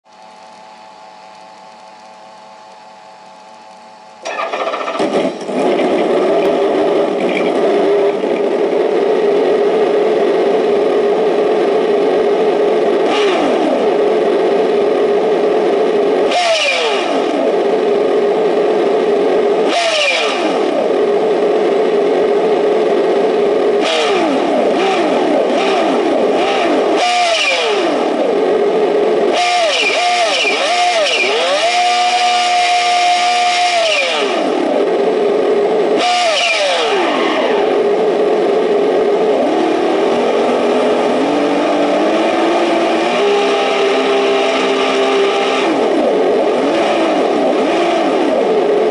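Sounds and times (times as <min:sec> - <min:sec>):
synthetic engine sound revving: 0:04.2 - 0:48.9.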